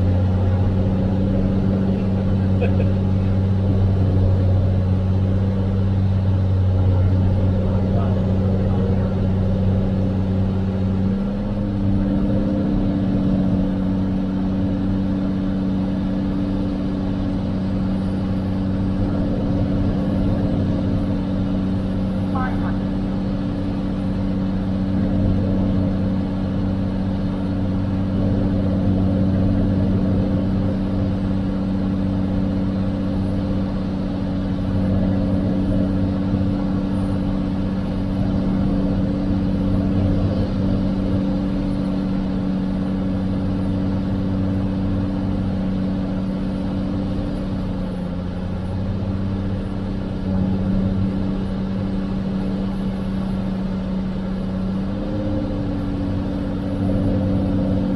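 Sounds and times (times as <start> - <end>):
airplane engine and propeller droning: 0.0 - 57.9.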